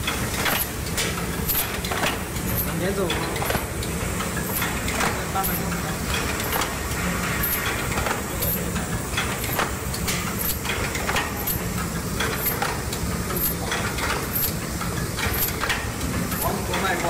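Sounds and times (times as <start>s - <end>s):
machine clicks: 0.0s - 17.0s.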